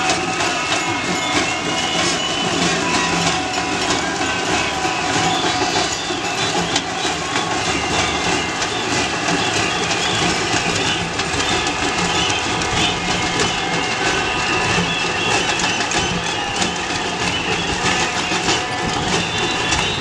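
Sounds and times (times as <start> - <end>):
protest crowd din: 0.0 - 20.0.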